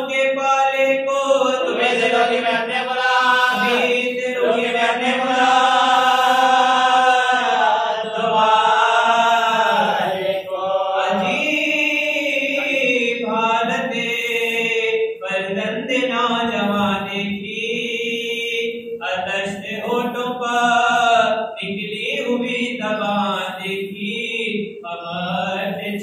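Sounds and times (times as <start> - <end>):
man chanting into a microphone: 0.0 - 26.0.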